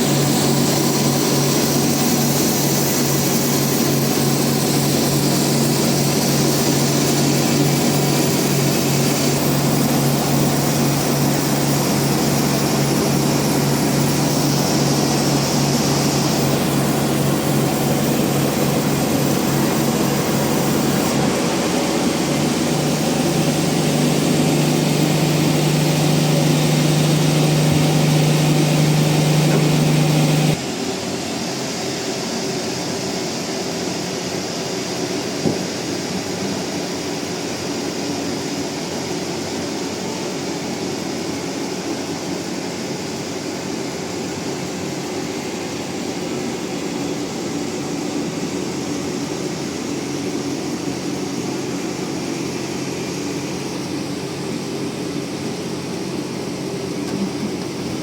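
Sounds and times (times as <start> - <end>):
band sawmill drone: 0.0 - 58.0.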